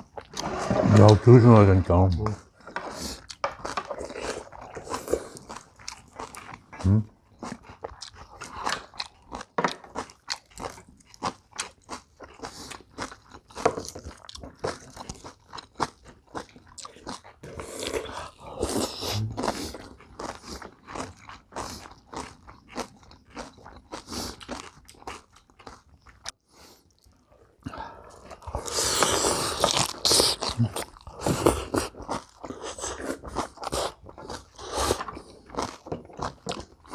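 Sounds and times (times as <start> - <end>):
close-up crunching and chewing: 0.0 - 36.9.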